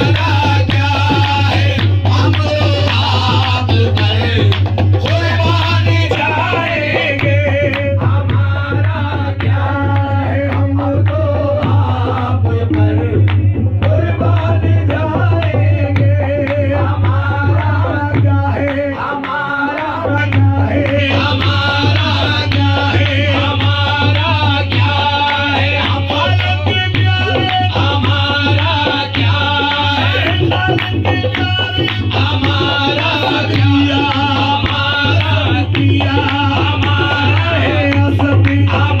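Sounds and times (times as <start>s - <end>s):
harmonium: 0.0s - 39.0s
men singing: 0.0s - 39.0s
tabla: 0.0s - 39.0s.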